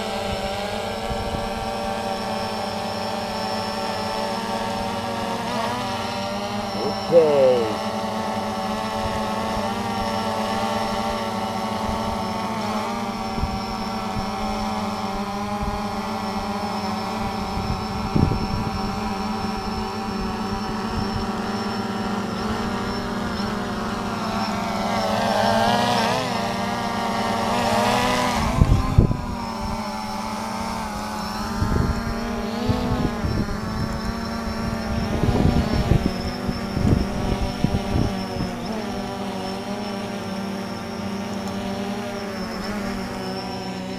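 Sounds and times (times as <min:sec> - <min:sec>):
drone propeller buzz: 0:00.0 - 0:43.9.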